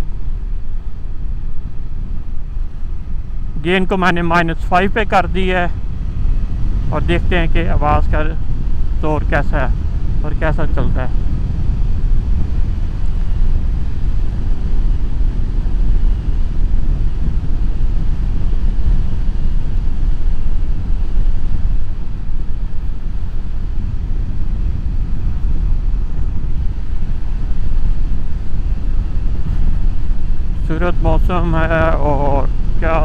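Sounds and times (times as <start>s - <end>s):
motorcycle wind rush: 0.0s - 33.0s.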